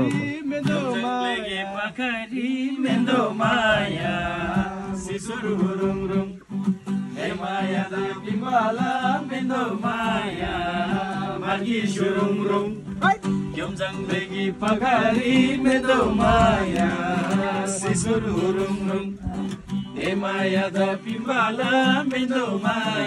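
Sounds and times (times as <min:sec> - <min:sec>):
acoustic guitar: 0:00.0 - 0:23.0
men singing folk song: 0:00.0 - 0:23.0.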